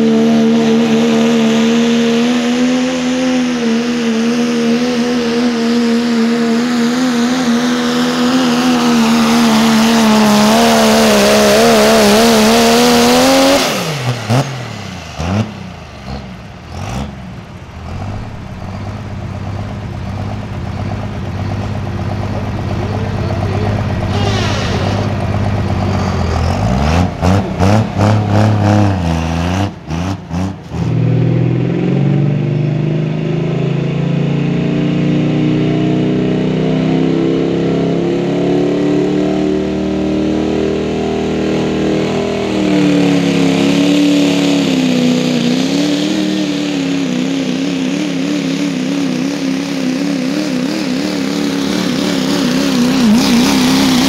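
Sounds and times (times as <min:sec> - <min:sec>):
diesel truck engines labouring: 0:00.0 - 0:54.0.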